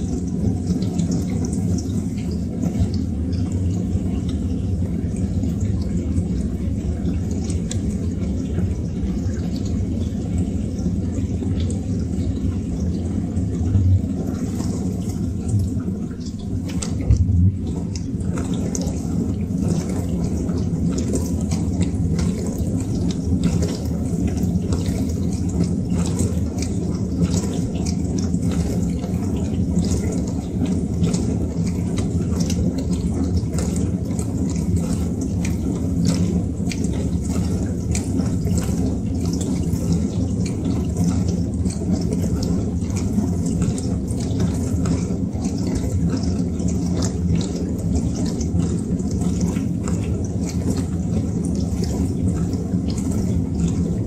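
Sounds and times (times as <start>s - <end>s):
dishwasher pump hum: 0.0s - 54.0s.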